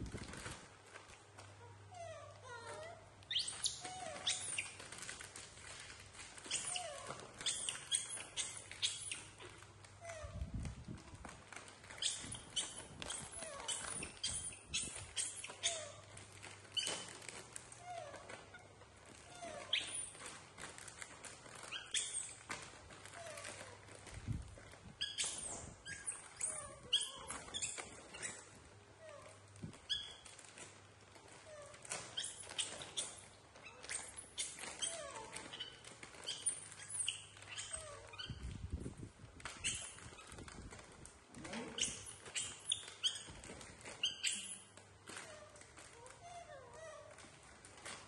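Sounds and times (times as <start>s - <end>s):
monkeys squeaking and chirping: 1.9s - 10.6s, 11.5s - 38.7s, 39.4s - 48.0s.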